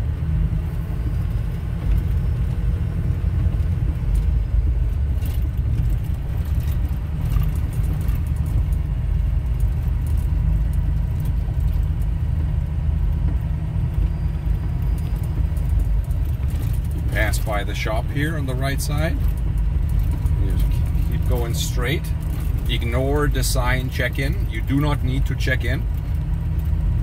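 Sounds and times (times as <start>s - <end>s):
vehicle rolling on gravel road: 0.0s - 27.0s.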